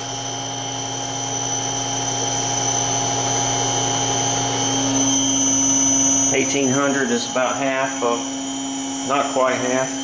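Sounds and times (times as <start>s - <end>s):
electric motor humming: 0.0s - 10.0s
high steady whines: 0.0s - 10.0s.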